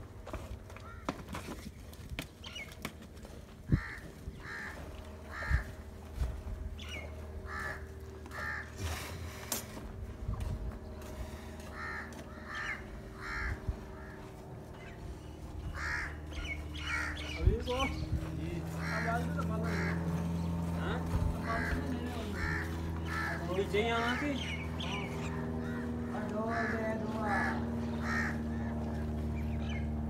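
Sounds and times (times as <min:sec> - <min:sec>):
crows cawing: 0:00.8 - 0:01.2, 0:03.6 - 0:08.9, 0:10.8 - 0:30.0.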